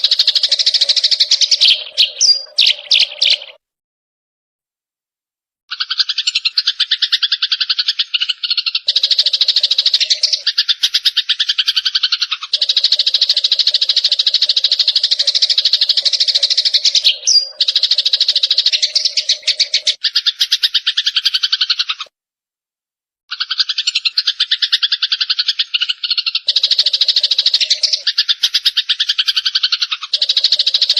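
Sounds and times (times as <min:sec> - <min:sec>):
songbirds chattering harshly: 0:00.0 - 0:03.6, 0:05.7 - 0:22.1, 0:23.3 - 0:30.9.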